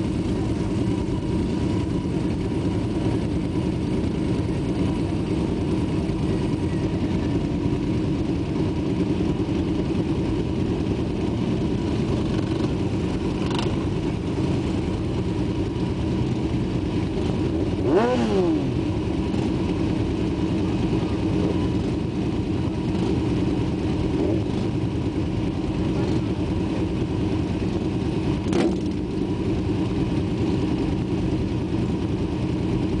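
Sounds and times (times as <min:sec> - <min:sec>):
motorcycle engines idling: 0:00.0 - 0:33.0.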